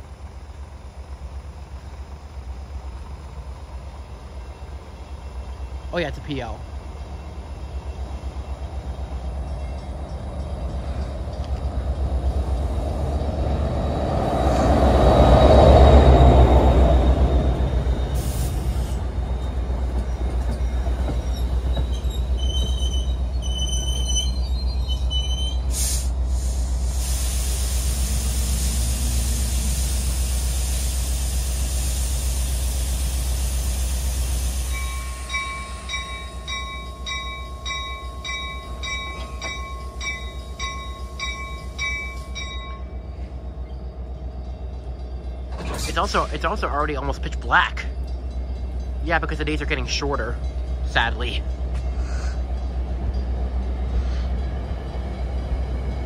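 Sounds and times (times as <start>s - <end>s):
diesel locomotive passing: 0.0s - 56.0s
train coaches rumbling: 0.0s - 56.0s.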